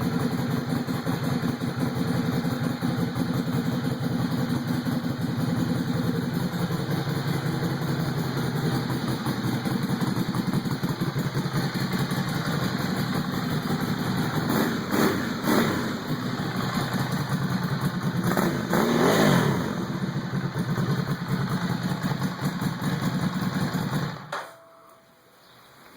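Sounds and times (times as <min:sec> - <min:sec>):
motorcycle engine idling and revving: 0:00.0 - 0:24.4.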